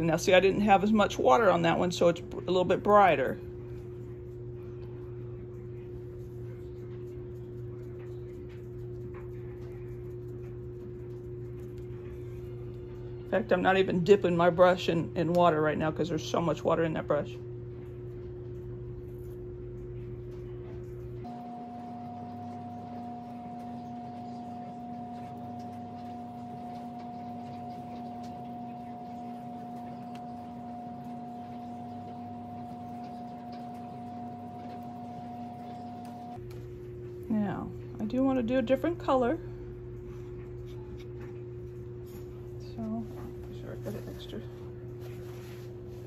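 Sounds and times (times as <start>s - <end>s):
steady background hum: 0.0s - 46.0s.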